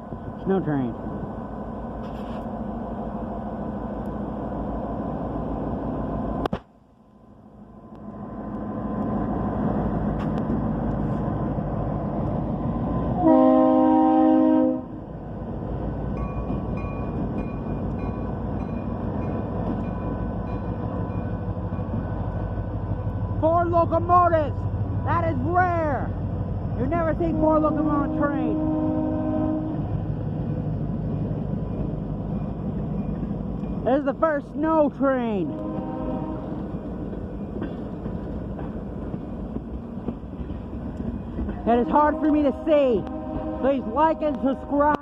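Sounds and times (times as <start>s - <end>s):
diesel locomotive rumbling: 0.0s - 45.0s.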